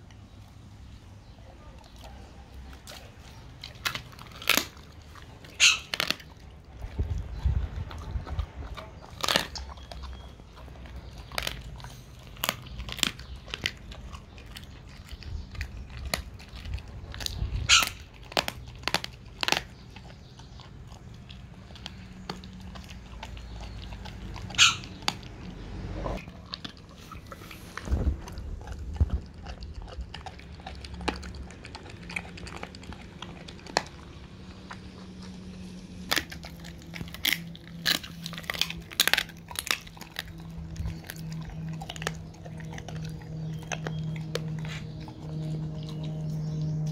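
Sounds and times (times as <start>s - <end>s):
dog crunching bone: 0.0s - 46.9s.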